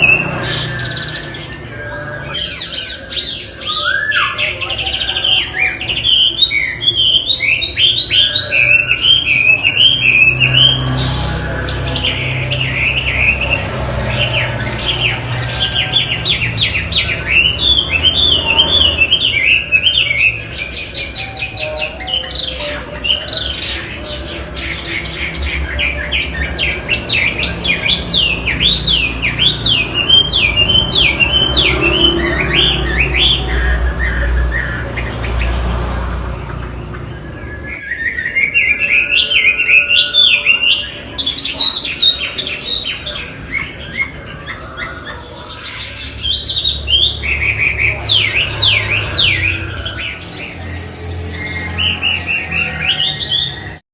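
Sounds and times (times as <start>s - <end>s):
bird singing warbled phrases: 0.0s - 53.8s.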